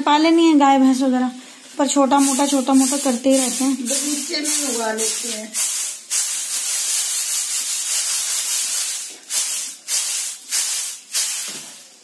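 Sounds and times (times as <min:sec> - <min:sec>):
seeds rattling across bamboo mat: 0:02.1 - 0:12.0.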